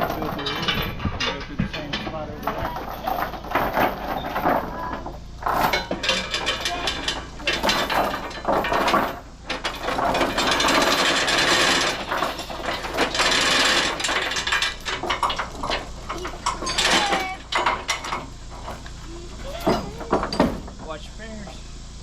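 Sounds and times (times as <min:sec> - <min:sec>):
metallic clatter: 0:00.0 - 0:22.0.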